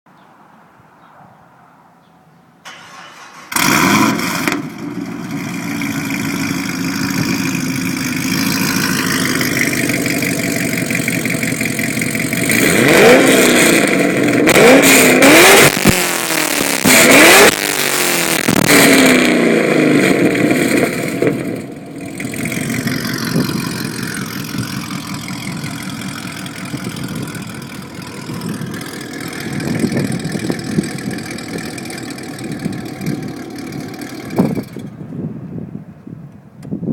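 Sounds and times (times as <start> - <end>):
car engine starting and revving: 2.7 - 35.1.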